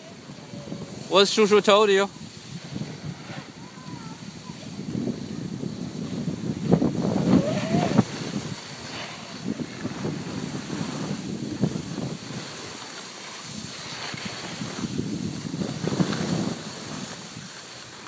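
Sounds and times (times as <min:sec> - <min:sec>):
wind buffeting microphone: 0:00.0 - 0:12.8, 0:13.4 - 0:17.9
skis scraping on packed snow: 0:00.0 - 0:18.0.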